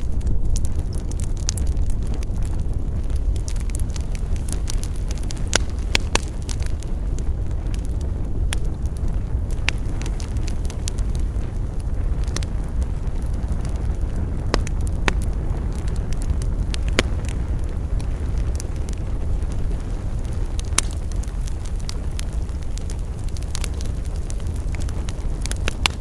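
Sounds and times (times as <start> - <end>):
campfire crackling and popping: 0.0 - 26.0
low rumble: 0.0 - 26.0.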